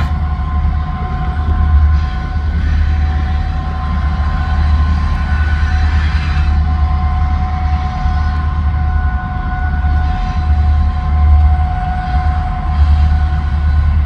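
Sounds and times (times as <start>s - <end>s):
locomotive engine rumble: 0.0s - 14.0s
steady high whine: 0.0s - 14.0s.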